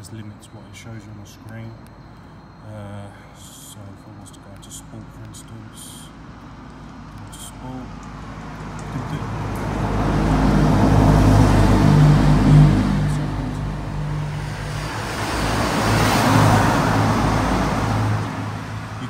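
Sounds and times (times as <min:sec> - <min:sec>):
vehicles passing under bridge: 0:00.0 - 0:19.0.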